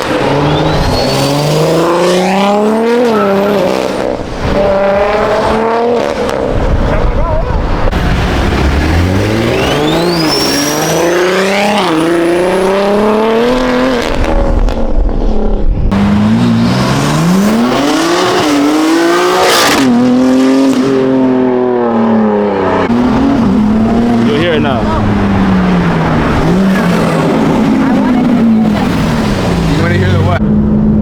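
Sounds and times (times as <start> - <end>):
car engine revving hard: 0.0 - 6.9, 7.8 - 14.8, 15.9 - 30.7.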